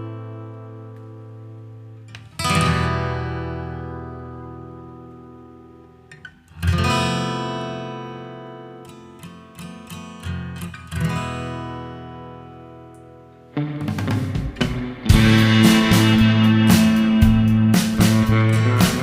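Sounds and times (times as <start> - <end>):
acoustic guitar strumming and picking: 0.0 - 19.0.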